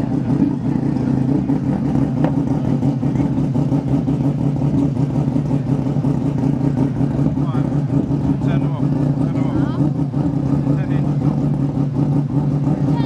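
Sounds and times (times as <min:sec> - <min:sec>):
racing car engine idling: 0:00.0 - 0:13.0.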